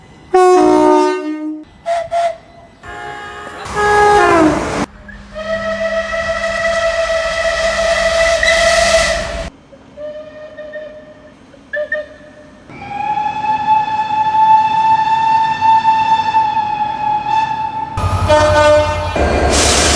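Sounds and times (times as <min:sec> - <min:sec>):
train horn blasts: 0:00.3 - 0:11.2, 0:12.9 - 0:19.4.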